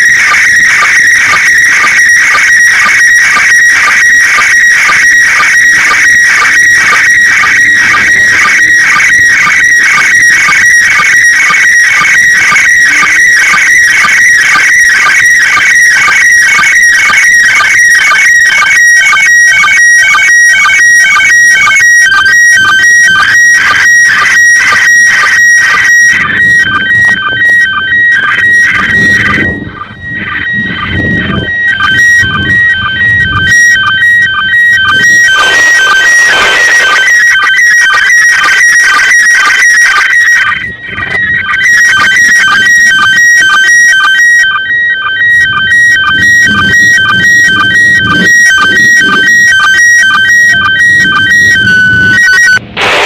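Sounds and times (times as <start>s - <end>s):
shrill warbling pulsed tone: 0.0s - 53.0s.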